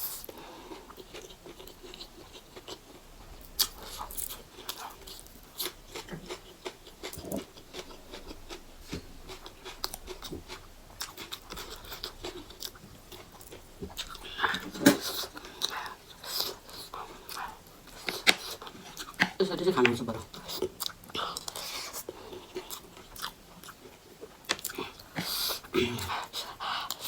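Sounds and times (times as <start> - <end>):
person chewing and smacking: 0.0 - 27.0.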